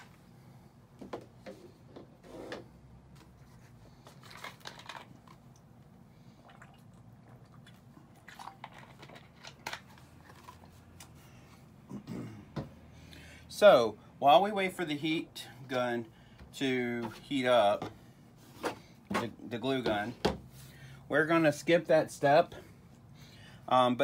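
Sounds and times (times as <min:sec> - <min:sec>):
quiet room hum: 0:00.0 - 0:24.0.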